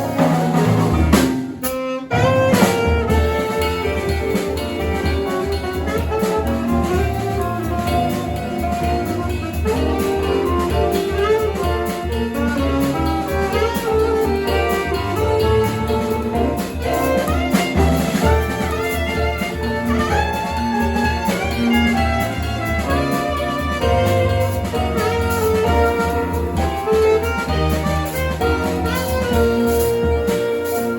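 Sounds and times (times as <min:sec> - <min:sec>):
alto saxophone: 0:00.0 - 0:30.9
jazz band playing: 0:00.0 - 0:30.9.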